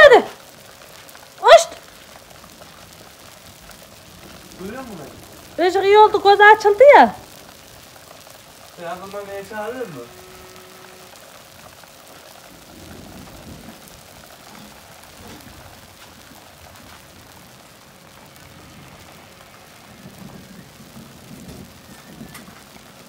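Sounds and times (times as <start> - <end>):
light rain hissing: 0.0 - 23.0.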